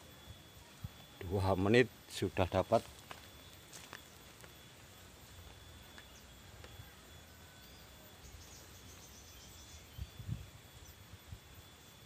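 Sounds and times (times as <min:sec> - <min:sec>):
faint bird chirps: 0:00.0 - 0:12.0
high insect drone: 0:00.0 - 0:12.0.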